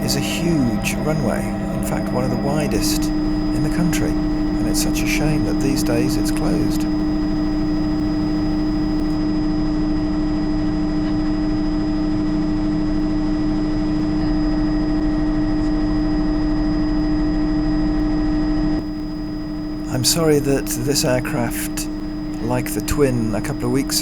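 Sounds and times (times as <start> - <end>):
helicopter engine and rotors droning: 0.0 - 16.5, 18.8 - 24.0.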